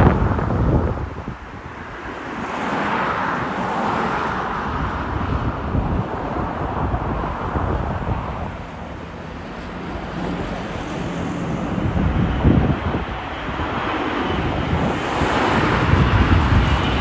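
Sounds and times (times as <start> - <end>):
jet engines rushing: 0.0 - 17.0
wind rumbling on microphone: 0.0 - 17.0.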